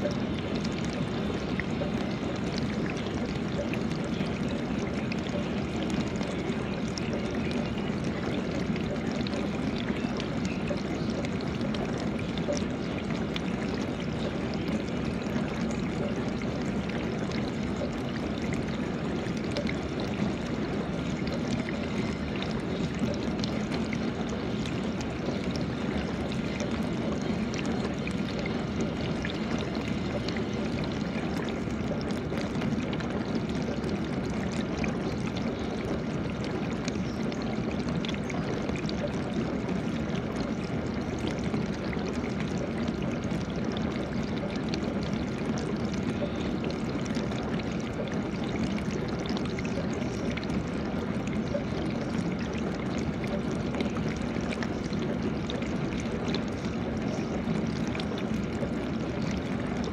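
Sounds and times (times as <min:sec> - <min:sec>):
pump hum: 0:00.0 - 0:59.9.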